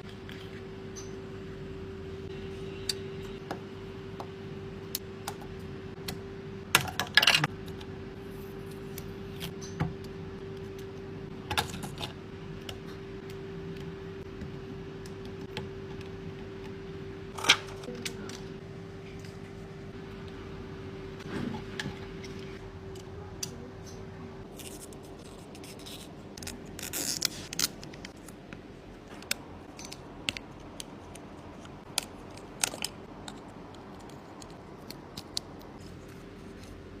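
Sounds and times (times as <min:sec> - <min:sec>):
steady hum: 0:00.0 - 0:37.0.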